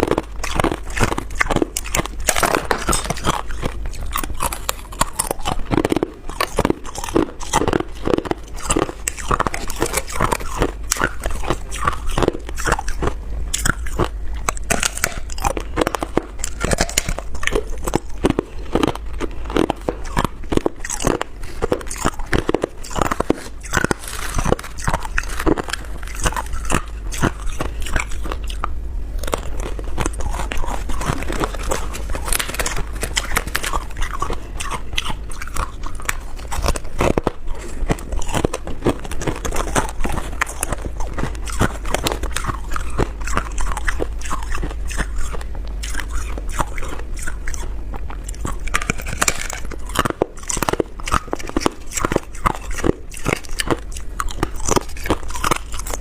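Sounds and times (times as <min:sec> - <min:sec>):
person crunching ice: 0:00.0 - 0:28.5, 0:29.2 - 0:47.6, 0:48.3 - 0:56.0.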